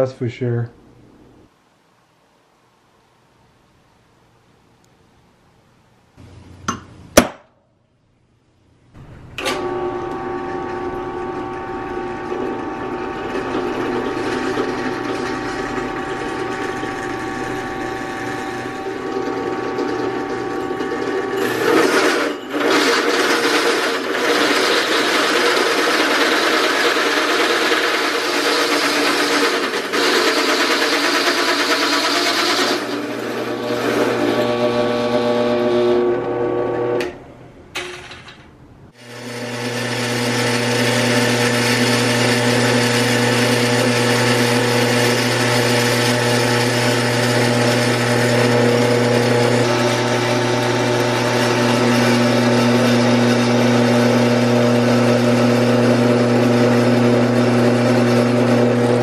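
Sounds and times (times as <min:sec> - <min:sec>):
drill press whining: 0:09.0 - 0:38.4, 0:39.0 - 0:59.0
hole saw cutting: 0:09.4 - 0:37.1, 0:39.0 - 0:59.0.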